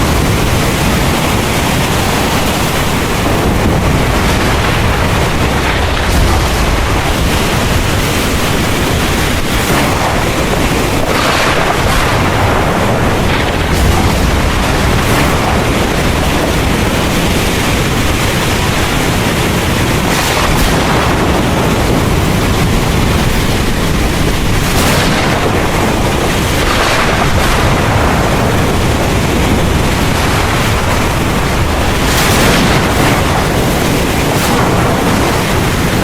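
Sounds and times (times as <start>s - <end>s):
continuous low rumble: 0.0s - 36.0s
heavy rain downpour: 0.0s - 36.0s.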